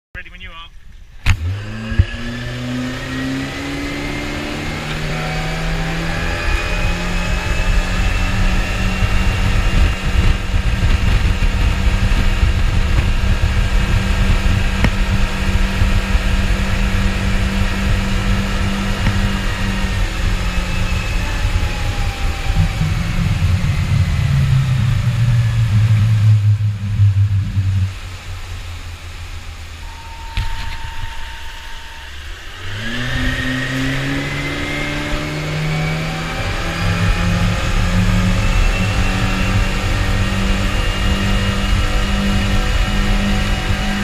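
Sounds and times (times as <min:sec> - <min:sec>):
outboard motors running: 0:00.9 - 0:44.0.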